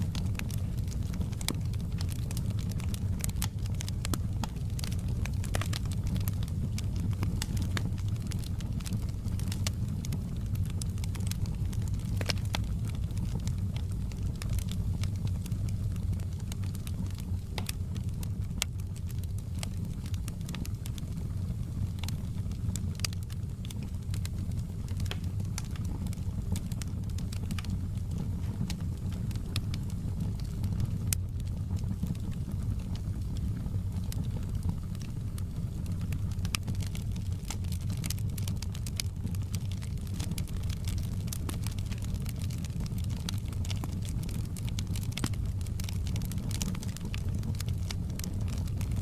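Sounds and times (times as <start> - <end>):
low fire rumble: 0.0 - 49.0
wood fire crackling and popping: 0.0 - 49.0.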